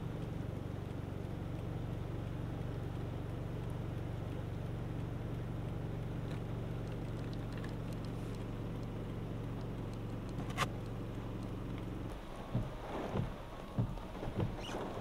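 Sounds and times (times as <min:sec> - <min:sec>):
faint crackles: 0:00.0 - 0:15.0
vehicle engine idling: 0:00.0 - 0:15.0.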